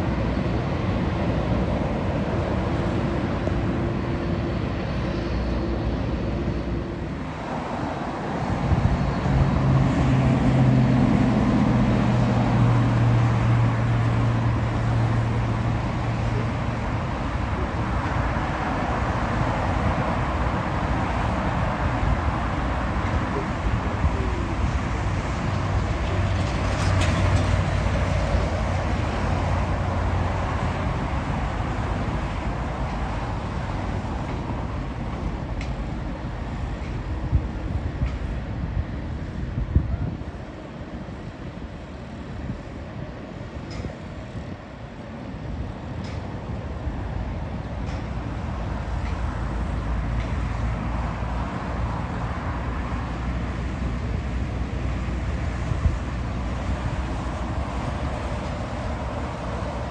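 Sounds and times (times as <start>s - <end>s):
jet engines taxiing: 0.0s - 59.9s.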